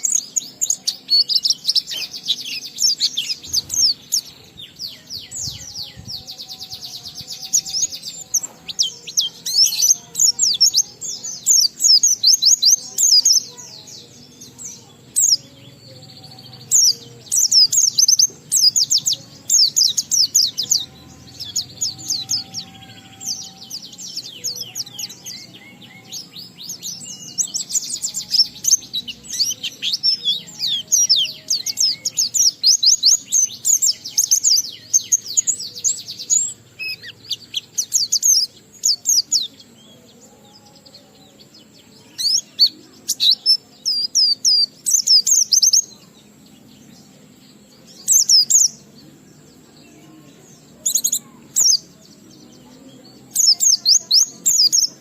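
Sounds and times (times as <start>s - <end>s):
bird singing high chirps and trills: 0.0s - 55.0s.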